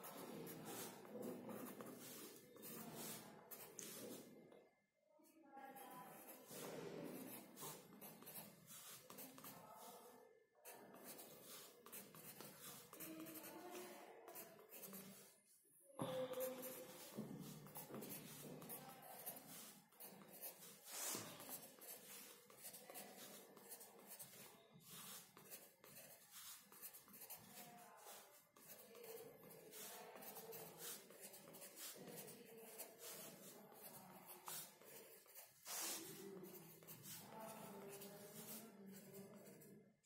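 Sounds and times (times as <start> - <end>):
pencil scratching on paper: 0.0 - 4.3, 5.8 - 15.4, 16.1 - 39.7.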